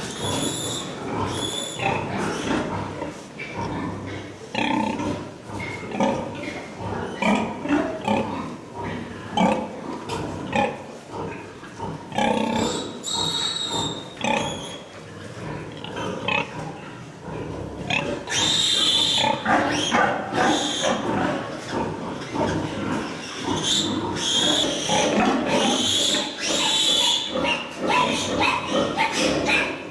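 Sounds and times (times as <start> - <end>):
pigs squealing: 0.0 - 9.8, 10.6 - 29.9
pigs grunting: 0.0 - 29.9.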